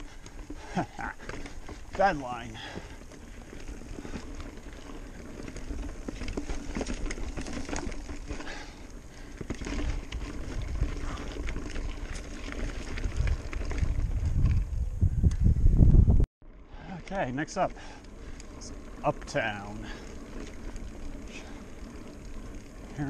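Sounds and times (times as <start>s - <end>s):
bike rattling over rocks: 0.0s - 14.9s, 17.2s - 23.0s.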